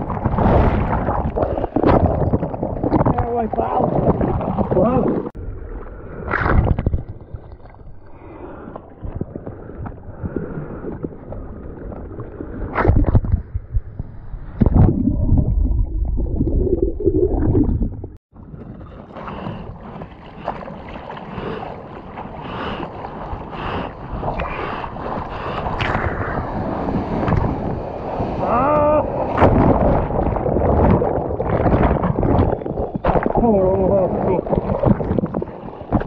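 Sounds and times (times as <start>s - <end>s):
sea water splashing and sloshing: 0.0s - 36.0s
underwater churning: 0.0s - 36.0s.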